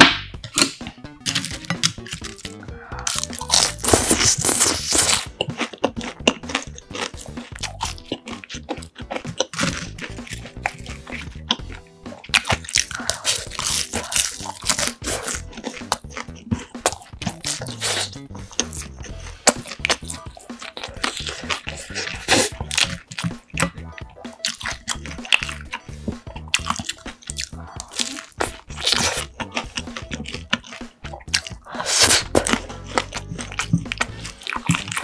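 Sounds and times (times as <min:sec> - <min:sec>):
crunching fried food: 0:00.4 - 0:35.0.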